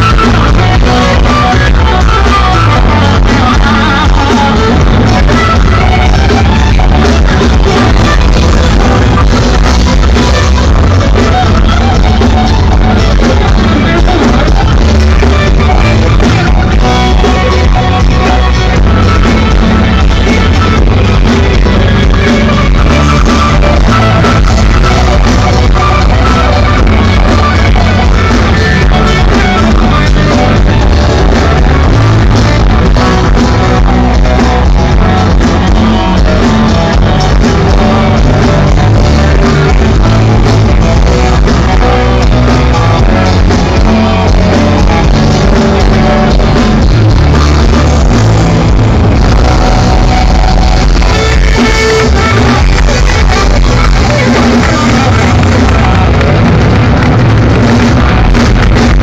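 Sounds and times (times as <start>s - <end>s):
live pop-rock band: 0.0s - 59.0s.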